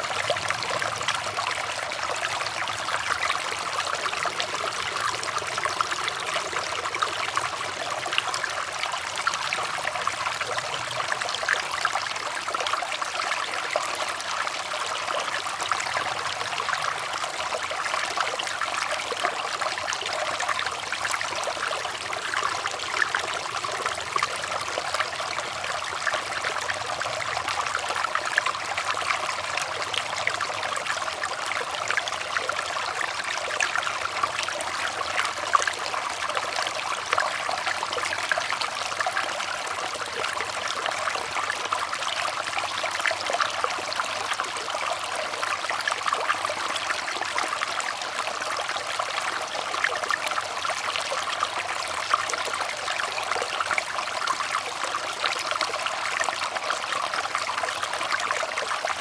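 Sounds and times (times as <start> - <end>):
water trickling over stones: 0.0 - 59.0.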